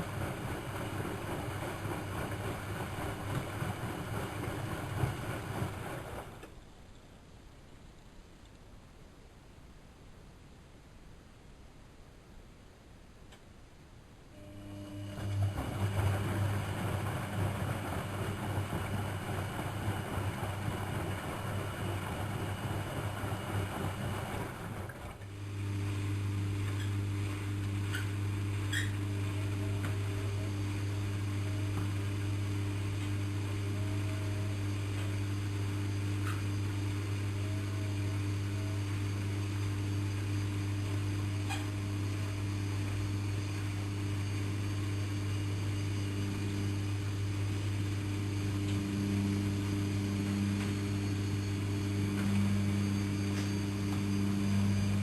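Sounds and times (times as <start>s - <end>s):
washing machine hum: 0.0s - 6.7s, 14.3s - 55.0s.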